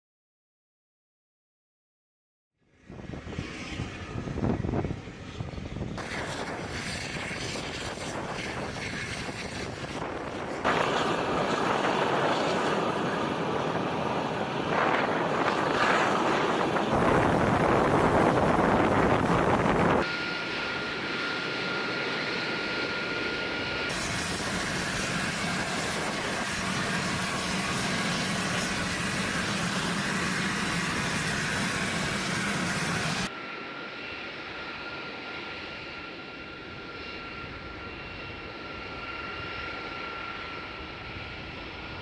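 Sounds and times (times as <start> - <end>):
jet engines running: 2.7 - 42.0.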